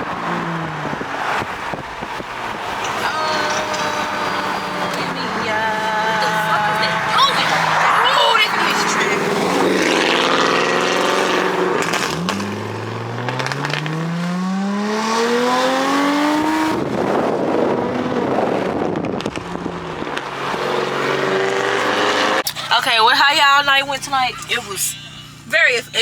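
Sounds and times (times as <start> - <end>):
car engine accelerating: 0.0 - 22.6.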